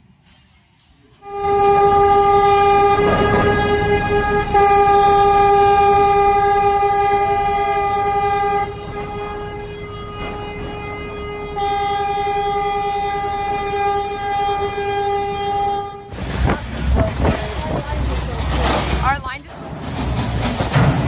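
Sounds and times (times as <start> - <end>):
horn blast: 1.2 - 19.2.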